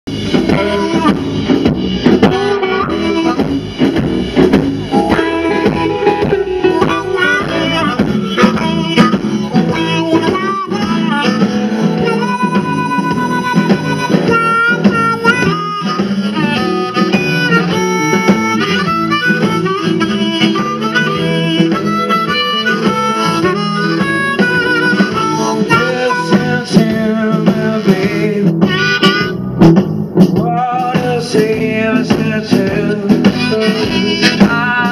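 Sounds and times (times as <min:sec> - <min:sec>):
blues band playing: 0:00.1 - 0:34.9
amplified harmonica: 0:00.5 - 0:29.6, 0:32.8 - 0:34.9.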